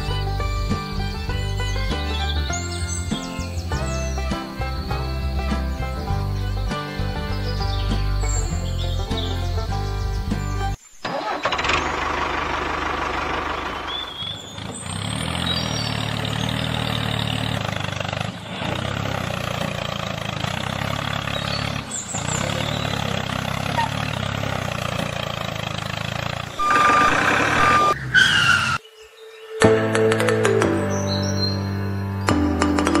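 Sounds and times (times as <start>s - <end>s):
tractor engine running: 0.0s - 28.8s.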